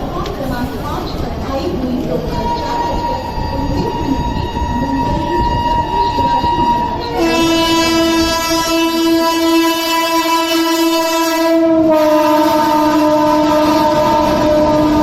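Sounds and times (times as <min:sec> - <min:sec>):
passing train rumble: 0:00.0 - 0:15.0
electric locomotive horn blast: 0:02.4 - 0:15.0.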